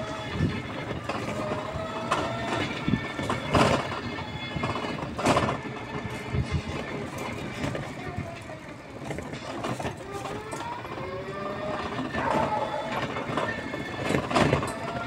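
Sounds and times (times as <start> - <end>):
tricycle frame rattling over road: 0.0 - 15.0
vehicle jolts: 0.0 - 15.0.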